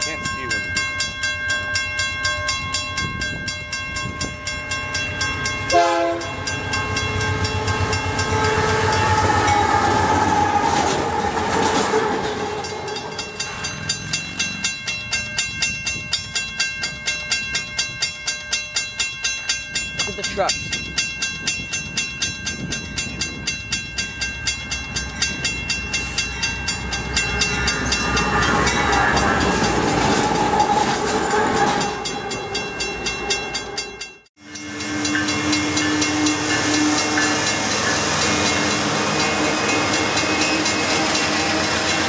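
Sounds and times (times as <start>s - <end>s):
diesel locomotives approaching: 0.0s - 42.0s
freight train passing: 0.0s - 42.0s.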